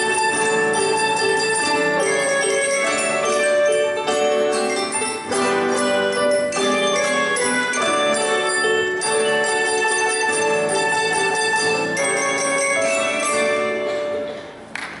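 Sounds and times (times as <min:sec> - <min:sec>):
ensemble playing bell-like chords: 0:00.0 - 0:14.1.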